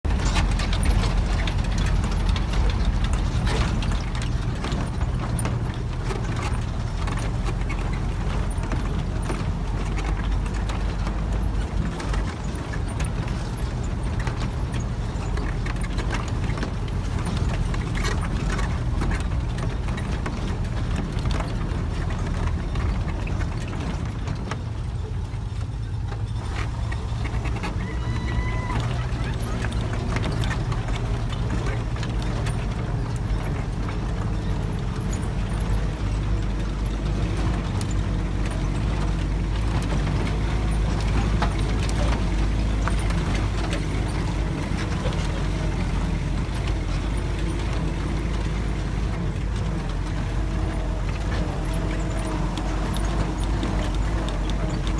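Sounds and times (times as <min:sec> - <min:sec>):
knocks and rattles on rough track: 0:00.0 - 0:54.9
vehicle engine low rumble: 0:00.0 - 0:54.9.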